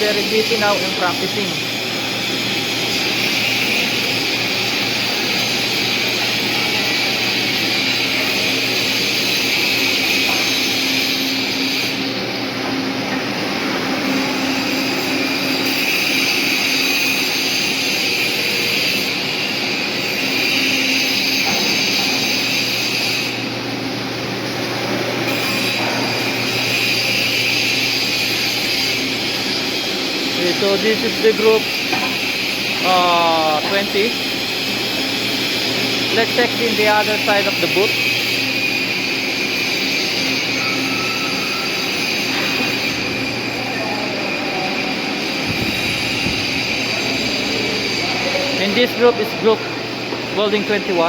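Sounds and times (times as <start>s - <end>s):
arc welding crackling and hissing: 0.0s - 51.0s
low machine hum: 0.0s - 51.0s.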